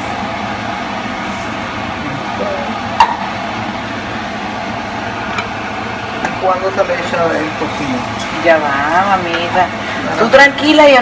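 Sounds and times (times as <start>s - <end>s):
pot hissing on gas burner: 0.0s - 11.0s.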